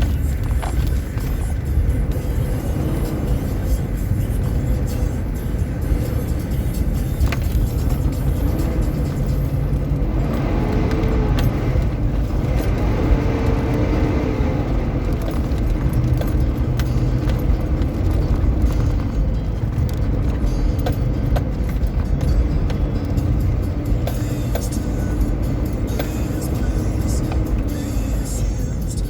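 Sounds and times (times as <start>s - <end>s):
car driving rumble: 0.0s - 29.0s
light clicks and rattles: 0.0s - 29.0s.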